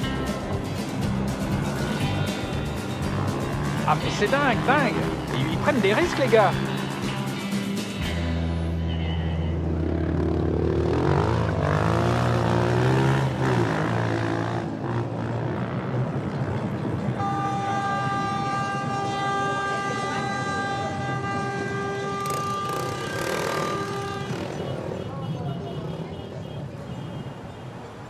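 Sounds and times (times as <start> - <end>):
vehicle engines running: 0.0 - 28.0.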